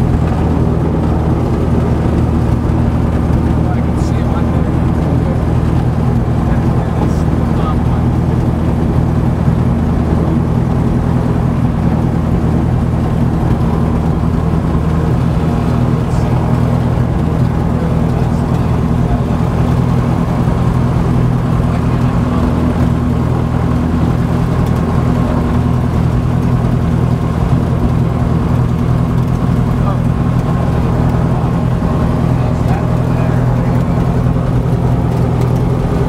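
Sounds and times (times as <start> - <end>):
aircraft engine and propeller running: 0.0 - 36.0.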